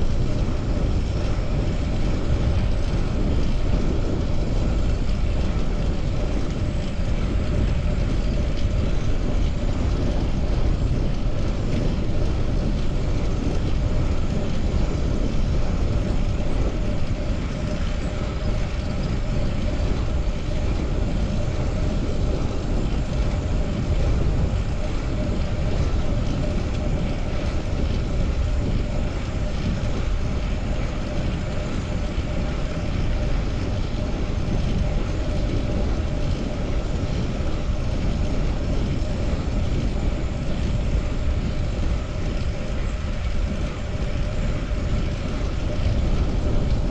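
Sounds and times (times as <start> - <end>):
bicycle road noise: 0.0 - 46.9.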